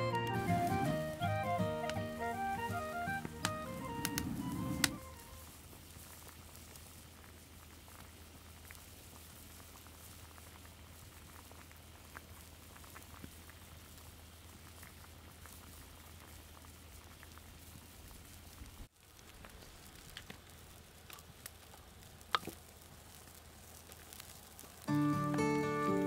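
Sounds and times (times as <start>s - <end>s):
water simmering with small pops: 0.2s - 26.0s.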